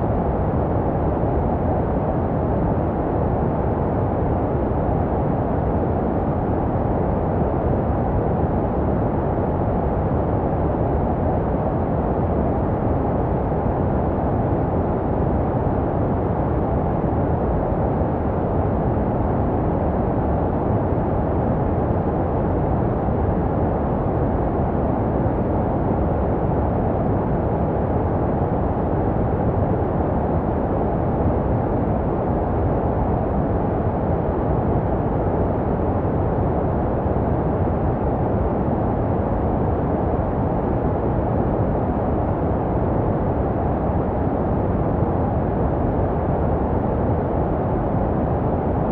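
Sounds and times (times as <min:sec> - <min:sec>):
muffled deep white noise: 0:00.0 - 0:48.9.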